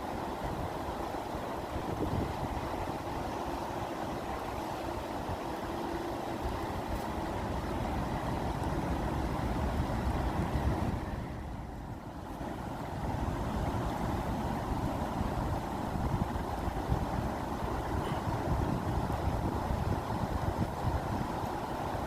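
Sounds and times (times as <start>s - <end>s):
water rushing with low rumble: 0.0s - 22.0s.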